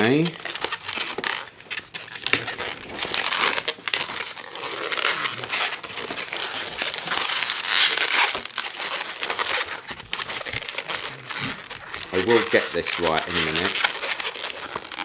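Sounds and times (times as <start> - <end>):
rubber balloon scrunching: 0.0 - 15.0.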